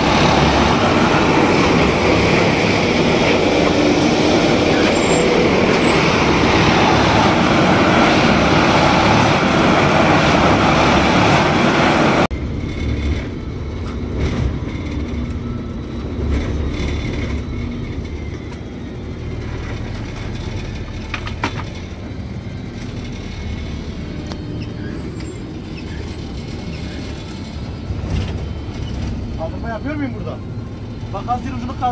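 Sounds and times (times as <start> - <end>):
railway machine engine running: 0.0 - 31.9.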